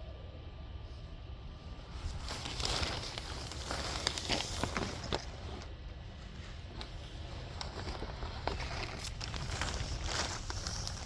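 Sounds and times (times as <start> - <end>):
footsteps and handling rustles: 1.6 - 11.0
wind rumbling on microphone: 1.6 - 11.0.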